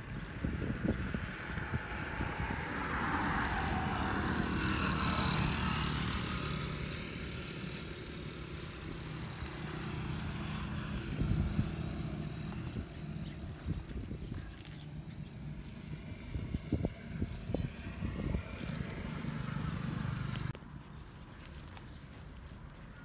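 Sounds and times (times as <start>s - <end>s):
motor engine running: 0.2s - 22.2s.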